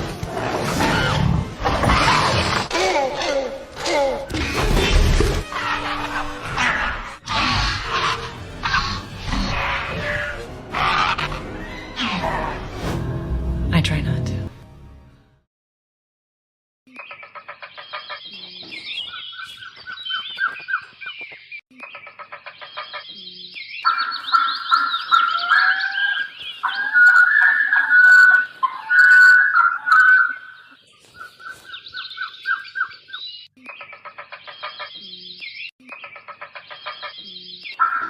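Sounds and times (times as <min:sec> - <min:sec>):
birds chirping and trilling: 0:03.3 - 0:12.8, 0:16.9 - 0:38.0.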